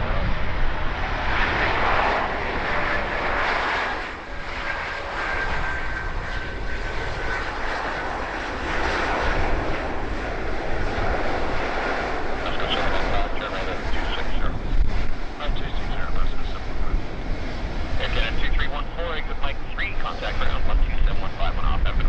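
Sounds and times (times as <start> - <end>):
jet engines rumbling and whining: 0.0 - 22.0
wind buffeting microphone: 0.0 - 22.0.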